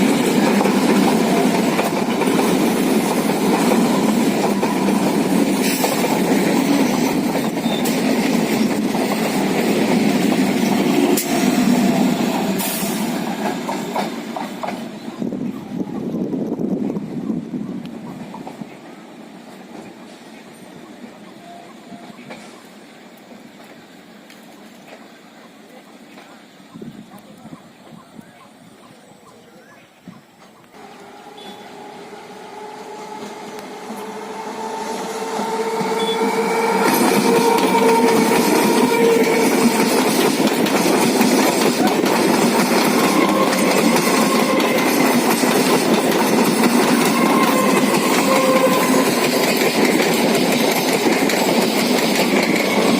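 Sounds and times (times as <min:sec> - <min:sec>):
passenger train rumbling past: 0:00.0 - 0:52.9.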